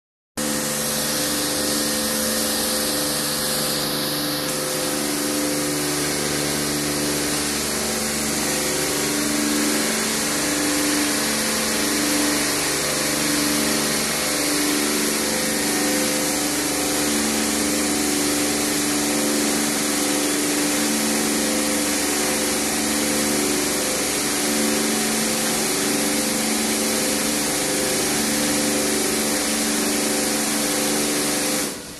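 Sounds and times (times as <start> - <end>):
pulsing pump and motor hum: 0.4 - 31.9
water jets spraying: 4.5 - 31.9.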